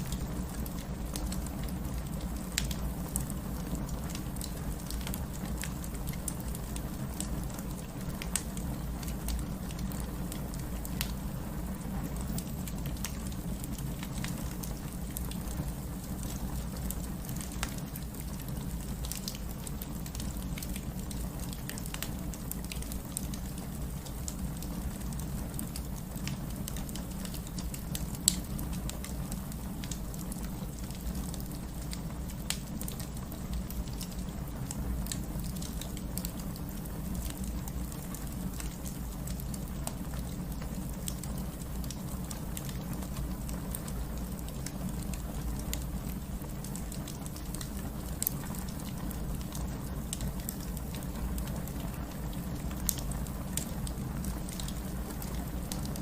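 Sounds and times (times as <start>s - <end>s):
rain hiss: 0.0s - 56.0s
wood fire crackling: 0.0s - 56.0s.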